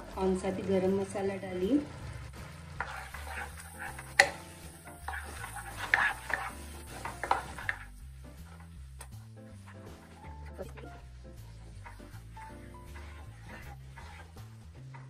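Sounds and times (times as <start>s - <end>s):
oil sizzling: 0.0s - 15.0s
wooden spatula scraping a pan: 2.3s - 15.0s.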